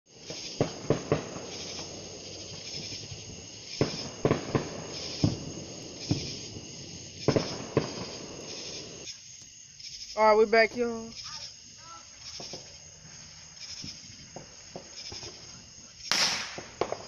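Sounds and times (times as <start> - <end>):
distant firecracker bangs: 0.1 - 9.0, 10.8 - 17.0
night insects chirring: 0.1 - 17.0.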